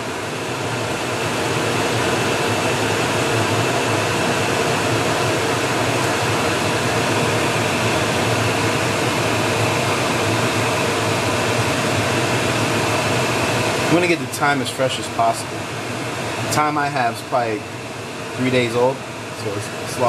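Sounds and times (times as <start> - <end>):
fan rushing noise: 0.0 - 20.0.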